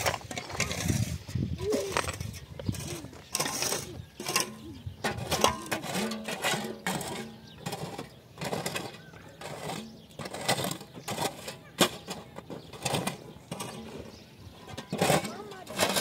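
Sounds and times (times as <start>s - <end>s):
shovel and hoe scraping stony soil: 0.0s - 16.0s.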